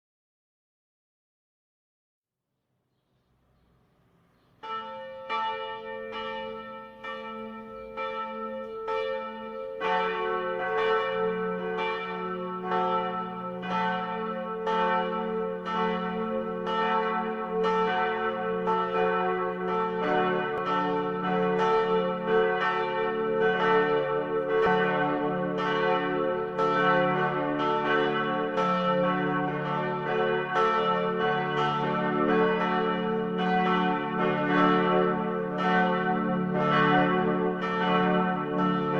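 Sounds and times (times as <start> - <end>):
church bells ringing: 4.5 - 38.9.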